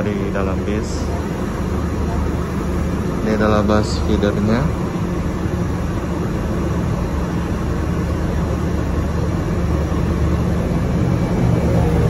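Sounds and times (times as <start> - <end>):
bus engine idling hum: 0.0 - 12.0.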